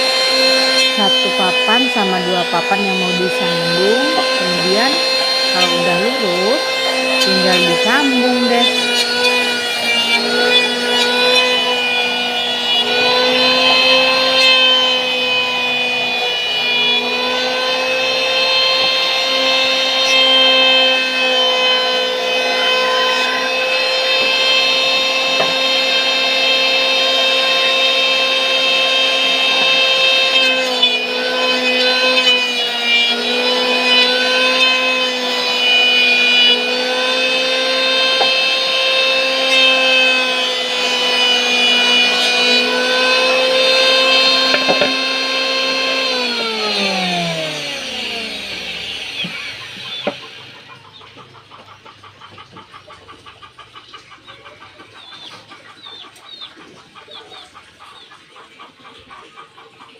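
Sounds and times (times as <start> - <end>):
electric motor humming: 0.0 - 52.8
motor winding down: 0.0 - 52.8.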